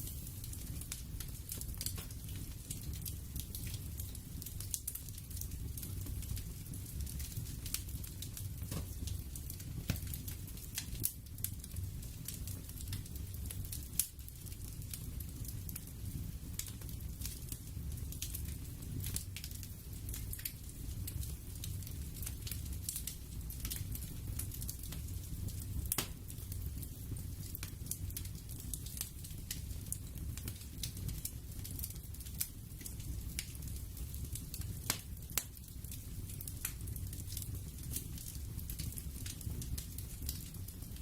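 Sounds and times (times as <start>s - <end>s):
crackles and pops: 0.0s - 41.0s.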